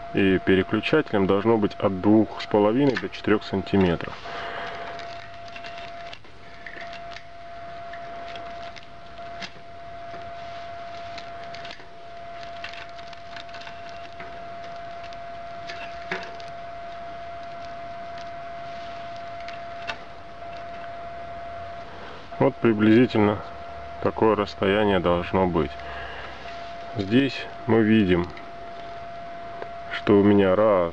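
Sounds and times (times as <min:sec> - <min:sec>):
steady background whine: 0:00.0 - 0:30.9.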